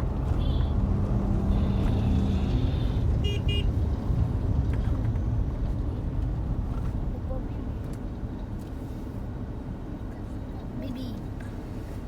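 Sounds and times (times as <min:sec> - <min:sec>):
vehicle rumbling on road: 0:00.0 - 0:12.0.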